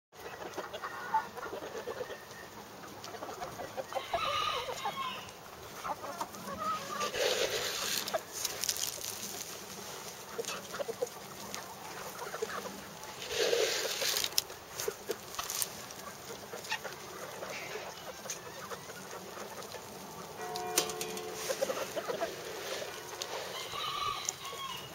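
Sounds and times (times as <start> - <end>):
chickens clucking: 0.2 - 24.9.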